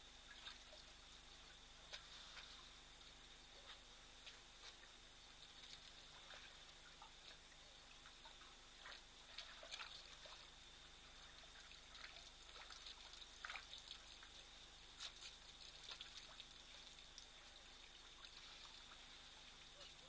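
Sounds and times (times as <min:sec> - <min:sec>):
steady hiss: 0:00.0 - 0:20.0
water trickling and splashing: 0:00.0 - 0:20.0.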